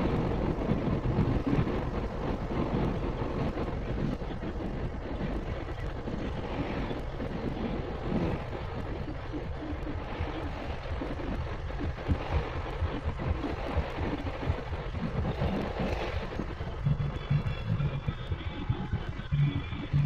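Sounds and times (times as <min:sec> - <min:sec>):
car road and engine noise: 0:00.0 - 0:20.0
wind buffeting microphone: 0:00.0 - 0:20.0.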